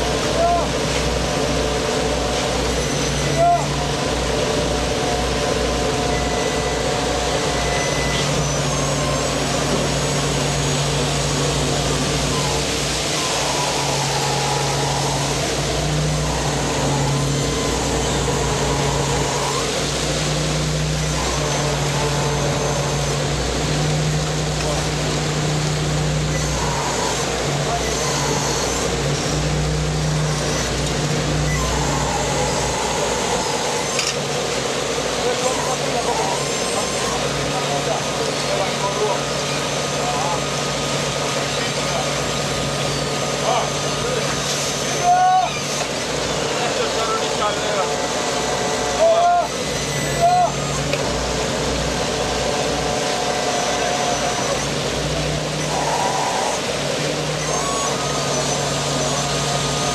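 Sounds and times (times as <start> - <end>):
boat engine low hum: 0.0 - 59.9
deck machinery droning: 0.0 - 59.9.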